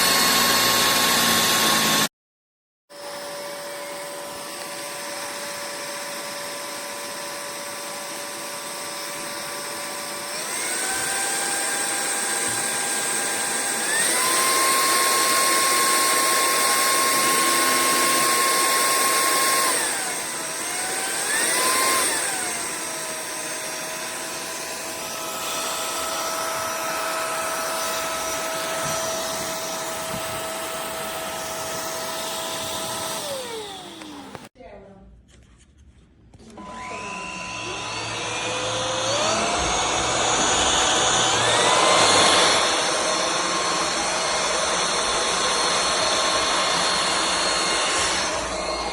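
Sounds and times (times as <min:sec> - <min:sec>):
stick vacuum motor whine: 0:00.0 - 0:02.1, 0:03.0 - 0:34.6, 0:36.4 - 0:48.9.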